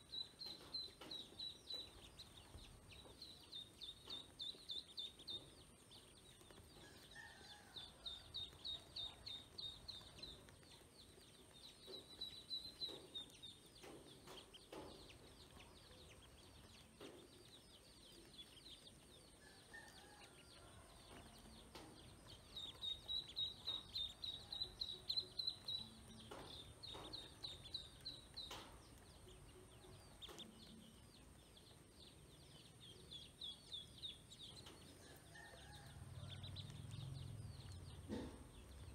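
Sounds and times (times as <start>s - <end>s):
ducklings peeping: 0.0s - 20.3s, 21.1s - 35.5s.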